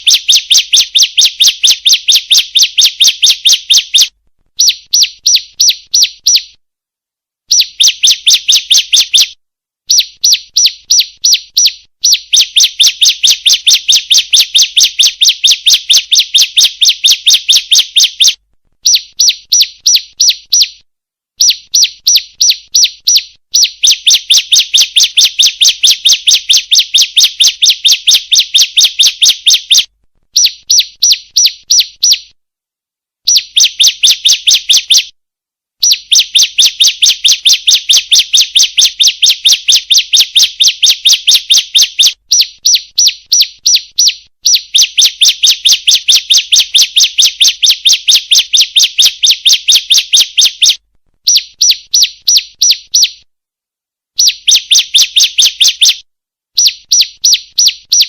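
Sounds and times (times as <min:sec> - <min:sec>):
bird chirping rapidly: 0:00.0 - 0:06.6, 0:07.5 - 0:20.8, 0:21.4 - 0:32.4, 0:33.3 - 0:35.1, 0:35.8 - 0:53.3, 0:54.2 - 0:56.0, 0:56.6 - 0:58.0.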